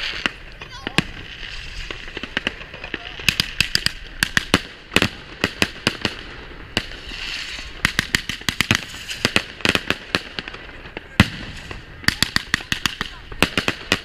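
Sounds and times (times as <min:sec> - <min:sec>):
firework hiss: 0:00.0 - 0:14.0
fireworks bangs and crackles: 0:00.0 - 0:14.0.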